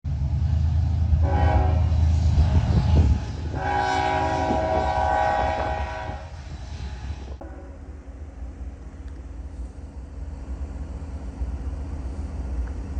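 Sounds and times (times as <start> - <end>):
low rumble of train: 0.0 - 12.9.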